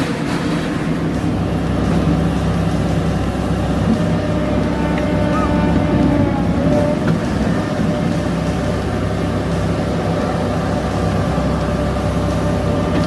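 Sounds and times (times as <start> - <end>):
loader engine running: 0.0 - 13.0.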